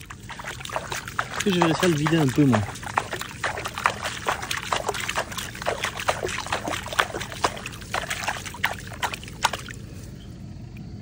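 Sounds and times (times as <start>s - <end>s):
water splashing and trickling: 0.0s - 10.2s.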